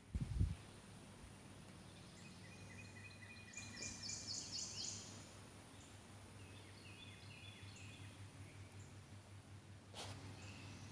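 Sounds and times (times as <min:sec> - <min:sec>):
small birds chirping: 0:00.6 - 0:09.2, 0:09.9 - 0:10.9.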